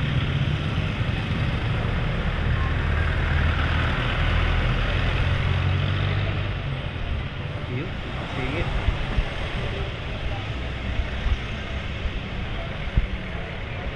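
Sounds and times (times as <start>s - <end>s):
road noise: 0.0s - 13.9s.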